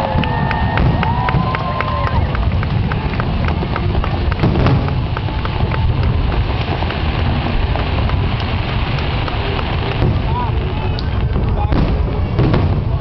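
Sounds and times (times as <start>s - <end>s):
fireworks booming: 0.0s - 13.0s
fireworks crackling: 0.0s - 13.0s.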